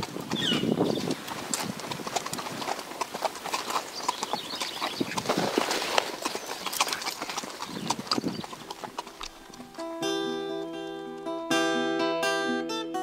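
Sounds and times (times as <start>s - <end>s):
horse hooves on stony ground: 0.0s - 11.3s.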